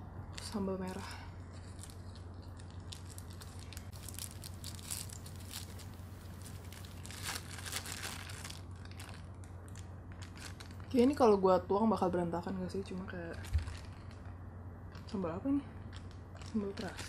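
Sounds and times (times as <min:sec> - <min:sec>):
low hum: 0:00.0 - 0:17.0
plastic bag crinkling: 0:00.3 - 0:11.4, 0:12.8 - 0:17.0.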